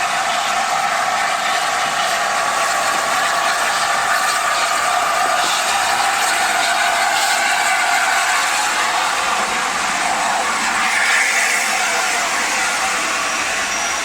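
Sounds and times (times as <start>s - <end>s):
steam train hissing: 0.0s - 14.0s.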